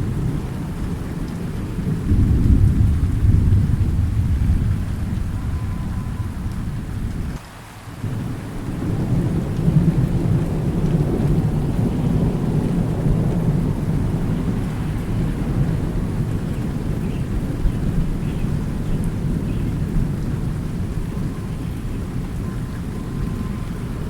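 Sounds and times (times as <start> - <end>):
thunder rumbling: 0.0 - 7.4, 8.0 - 24.0
steady rain: 0.0 - 24.0.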